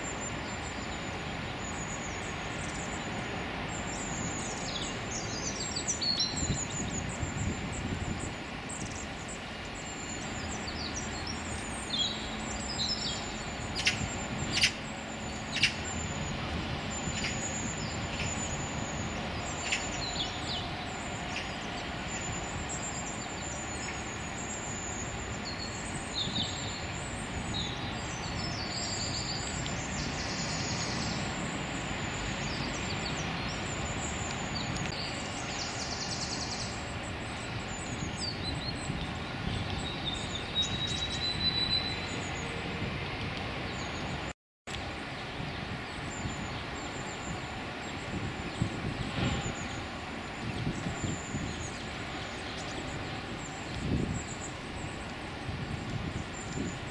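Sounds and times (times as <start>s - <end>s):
small birds chirping: 0.0s - 42.6s, 45.0s - 56.9s
distant traffic rumble: 0.0s - 56.9s.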